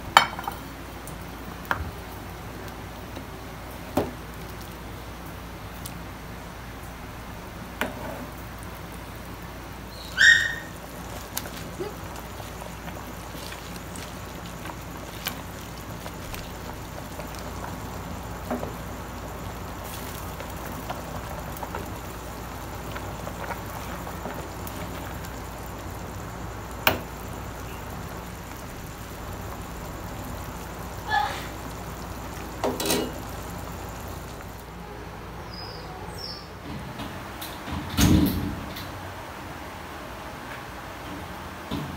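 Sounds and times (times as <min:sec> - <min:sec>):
broth boiling in a pot: 0:00.0 - 0:36.4.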